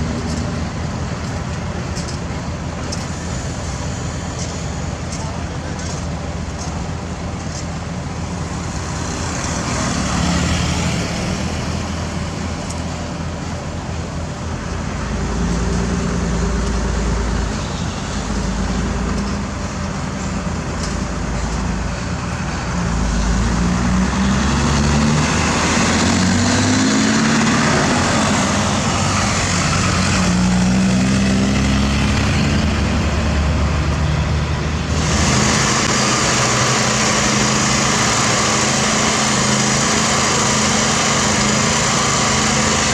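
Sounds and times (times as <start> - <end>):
heavy diesel machinery engines: 0.0 - 42.9
passing road vehicles: 0.0 - 42.9.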